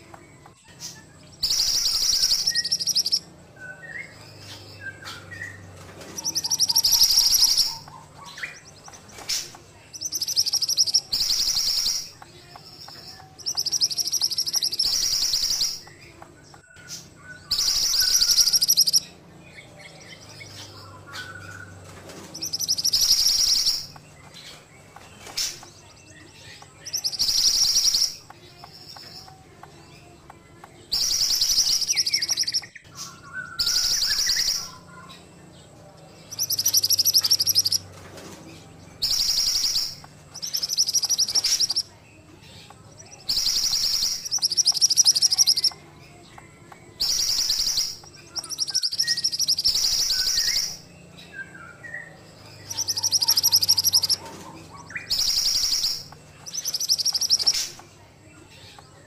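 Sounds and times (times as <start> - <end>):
soft whistled bird notes: 0.0 - 29.7, 30.6 - 35.2, 36.2 - 37.8, 38.7 - 42.0, 42.9 - 45.8, 47.0 - 57.8
songbird singing buzzy phrases: 0.0 - 59.0.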